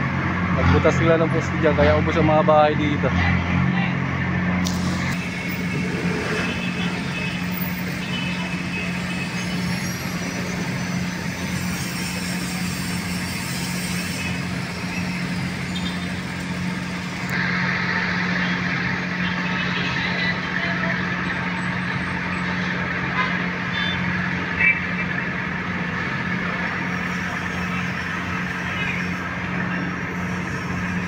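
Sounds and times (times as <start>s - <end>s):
cars and trucks passing: 0.0s - 31.0s
low engine hum: 0.0s - 31.0s.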